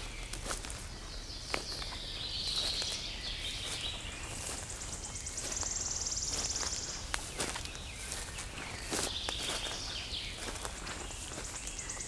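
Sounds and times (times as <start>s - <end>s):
footsteps on forest floor: 0.0s - 12.0s
songbirds singing: 0.0s - 12.0s.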